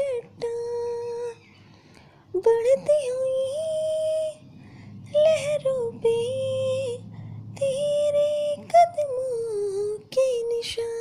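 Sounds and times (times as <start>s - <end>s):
woman singing worship song: 0.0s - 11.0s.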